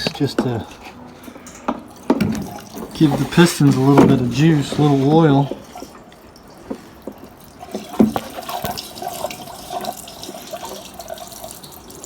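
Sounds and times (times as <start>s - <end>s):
liquid pouring trickle: 0.1s - 12.0s.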